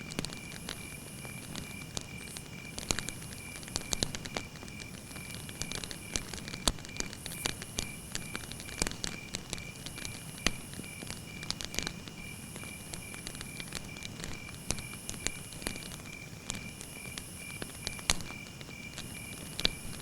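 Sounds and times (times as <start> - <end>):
campfire crackling: 0.0 - 20.0
fire popping: 0.0 - 20.0.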